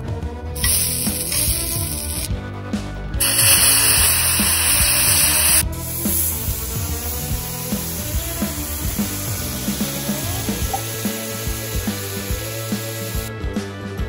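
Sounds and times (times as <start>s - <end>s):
background music: 0.0s - 14.0s
sizzling on hot griddle: 0.6s - 2.3s, 3.2s - 13.3s.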